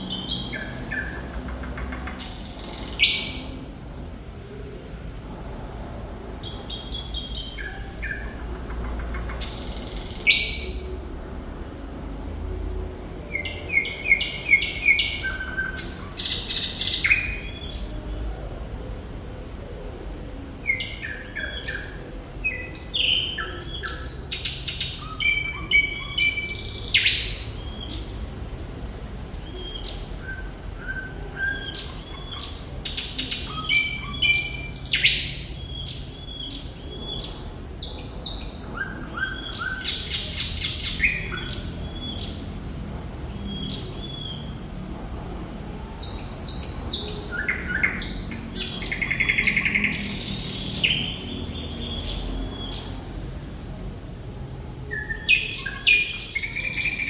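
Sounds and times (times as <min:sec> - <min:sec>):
nightingale singing: 0:00.0 - 0:03.7, 0:06.0 - 0:11.4, 0:12.5 - 0:18.6, 0:19.6 - 0:28.4, 0:29.3 - 0:42.6, 0:45.7 - 0:53.1, 0:54.0 - 0:57.0.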